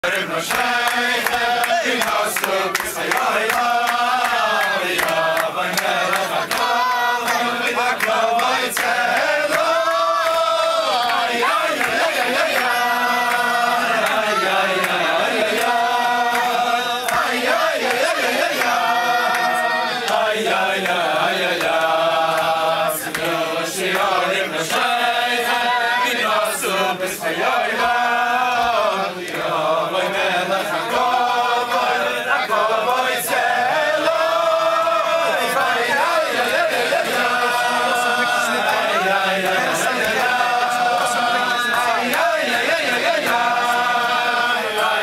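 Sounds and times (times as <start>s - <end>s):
men singing in unison: 0.0s - 45.0s.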